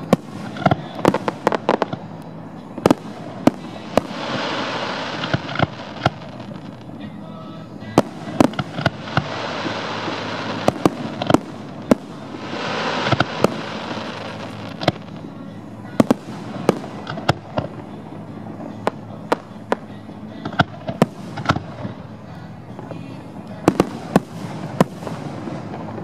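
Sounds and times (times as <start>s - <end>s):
fireworks bursting: 0.0s - 26.0s
loud hiss: 0.0s - 26.0s.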